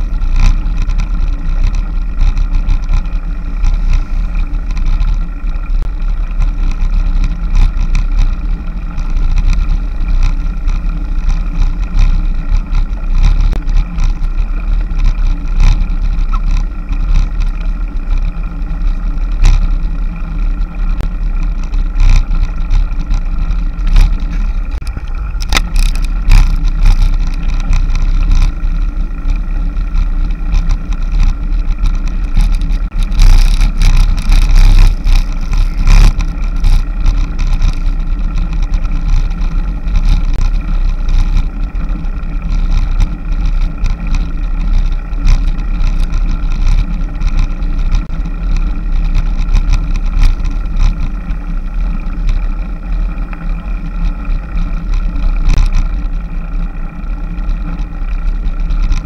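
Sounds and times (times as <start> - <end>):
sharp clicks and knocks: 0.0 - 51.4, 52.0 - 56.7, 57.3 - 59.0
road vibration rumble: 0.0 - 59.0
wind buffeting: 0.0 - 59.0.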